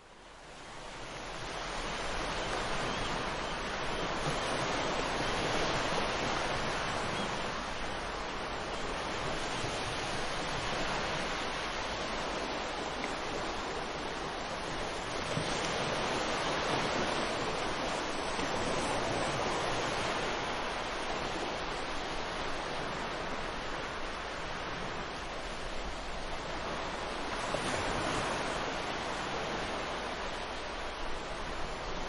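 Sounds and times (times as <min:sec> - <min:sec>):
waves breaking: 0:00.9 - 0:32.0.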